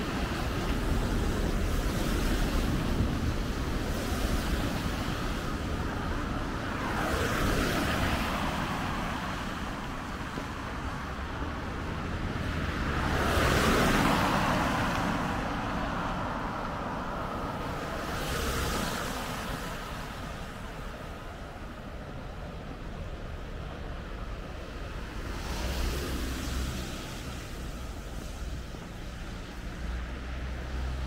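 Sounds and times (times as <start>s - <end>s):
cars passing on wet road: 0.0s - 31.0s.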